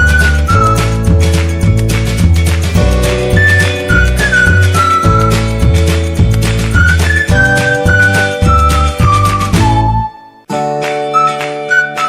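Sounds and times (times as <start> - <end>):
pulsing bass: 0.0 - 10.1.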